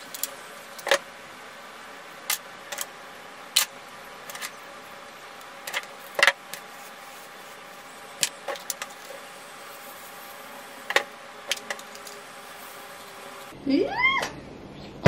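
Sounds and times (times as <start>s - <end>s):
steady hiss: 0.0s - 13.6s.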